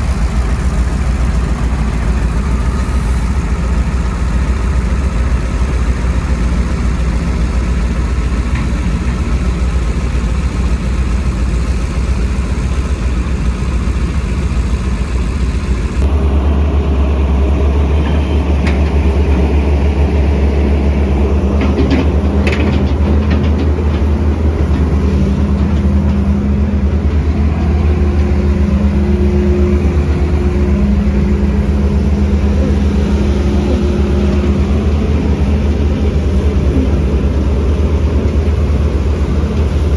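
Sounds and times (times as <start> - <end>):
deep loud engine: 0.0 - 39.9
diesel construction machinery: 0.0 - 39.9.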